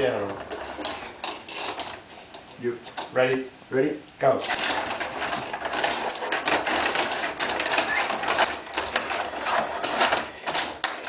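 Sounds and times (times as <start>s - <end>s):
player figures rattling: 0.0s - 3.2s, 4.4s - 11.0s
table hockey rods clattering: 0.0s - 3.4s, 4.4s - 11.0s.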